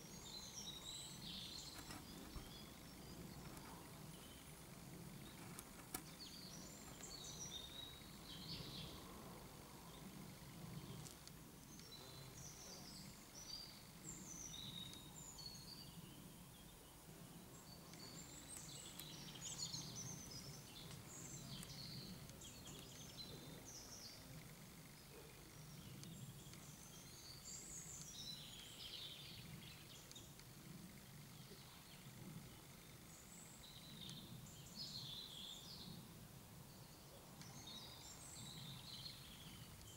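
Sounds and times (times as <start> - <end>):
birds chirping: 0.0 - 39.9
low steady hum: 0.0 - 39.9.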